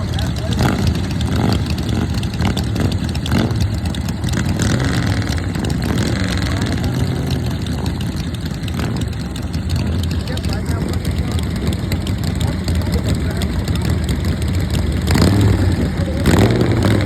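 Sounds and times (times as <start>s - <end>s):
old engines rumbling at low revs: 0.0s - 17.0s.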